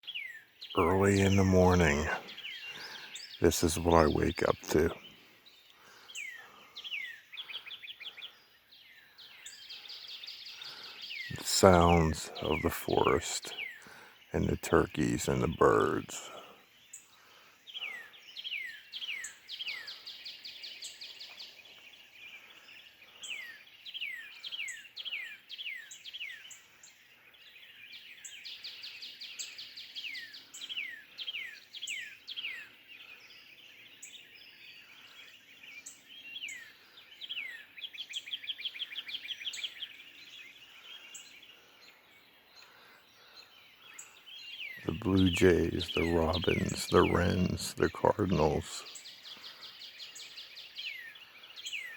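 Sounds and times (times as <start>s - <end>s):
whistled birdsong notes: 0.0s - 51.9s.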